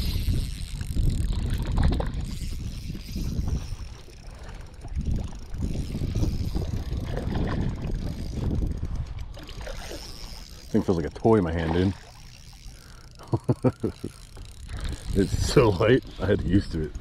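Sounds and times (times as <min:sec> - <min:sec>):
wind buffeting microphone: 0:00.0 - 0:12.2, 0:14.0 - 0:17.0.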